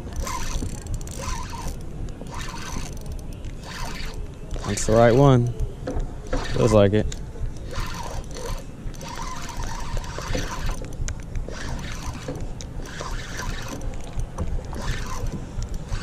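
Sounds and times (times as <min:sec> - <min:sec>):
fishing reel whirring: 0:00.0 - 0:05.4, 0:06.3 - 0:06.8, 0:07.6 - 0:14.1, 0:14.7 - 0:16.0.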